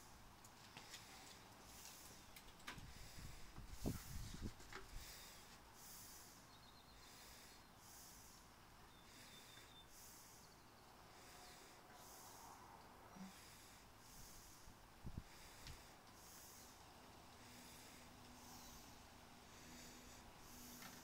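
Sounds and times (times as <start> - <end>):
faint background hiss: 0.0 - 21.0.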